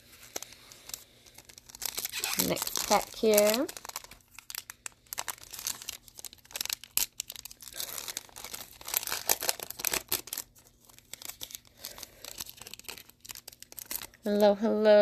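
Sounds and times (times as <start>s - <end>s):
foil wrapper crinkling and tearing: 0.0s - 14.5s.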